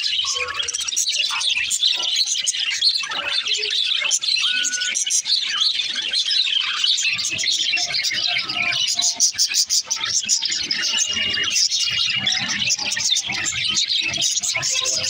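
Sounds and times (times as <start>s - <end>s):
budgerigars chattering and warbling: 0.0s - 15.0s.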